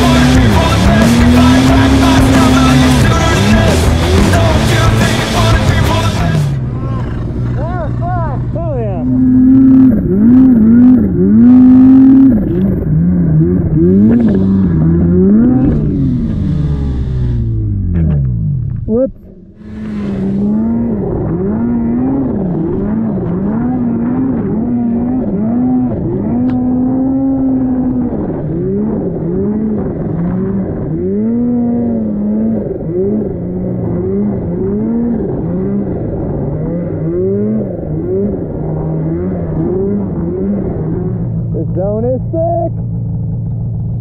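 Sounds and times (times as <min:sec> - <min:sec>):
snowmobile engine revving: 0:00.0 - 0:44.0.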